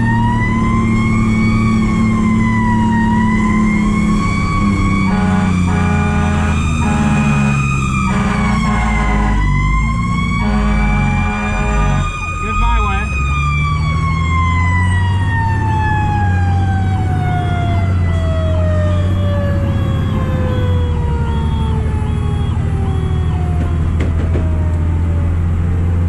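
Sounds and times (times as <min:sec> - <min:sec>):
diesel engine drone: 0:00.0 - 0:26.0
fire truck siren winding down: 0:00.0 - 0:26.0.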